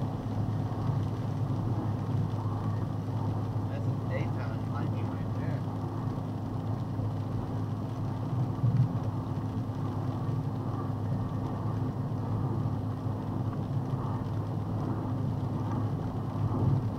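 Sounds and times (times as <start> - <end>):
truck engine and road drone: 0.0 - 16.9.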